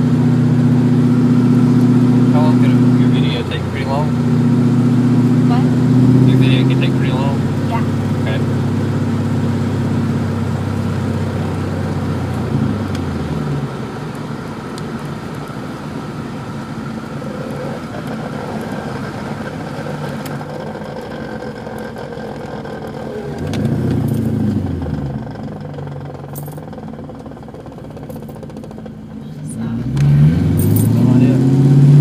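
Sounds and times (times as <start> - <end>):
car engine drone: 0.0 - 32.0
road noise: 0.0 - 32.0.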